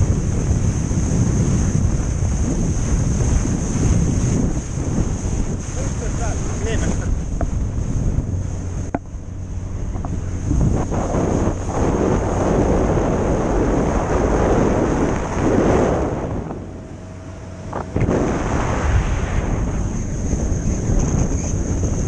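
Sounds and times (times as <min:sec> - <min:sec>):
water rushing along boat hull: 0:00.0 - 0:22.0
wind buffeting microphone: 0:00.0 - 0:22.0.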